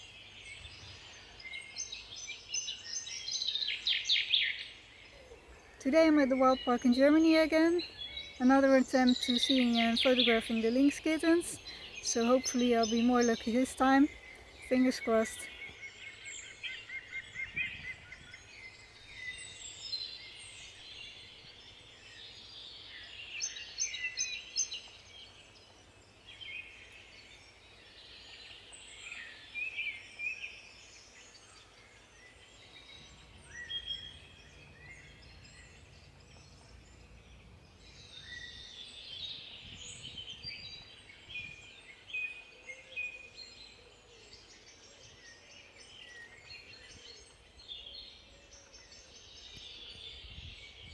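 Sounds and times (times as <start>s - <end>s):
songbirds chirping and trilling: 0.0s - 25.3s, 31.0s - 50.9s.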